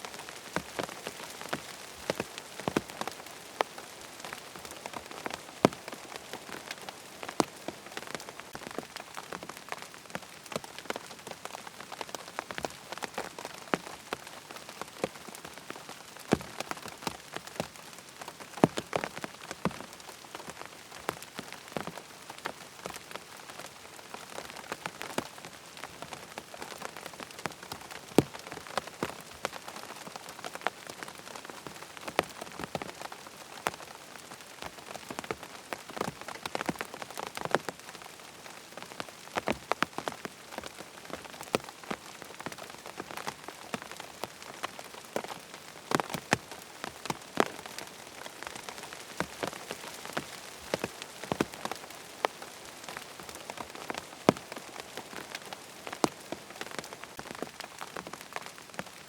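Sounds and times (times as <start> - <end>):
rain falling on a tent: 0.0 - 59.0
raindrops tapping fabric: 0.0 - 59.0.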